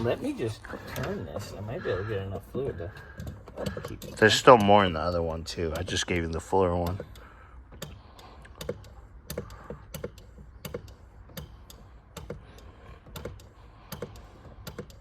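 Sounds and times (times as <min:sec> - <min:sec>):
hand pump clicking: 0:00.0 - 0:15.0.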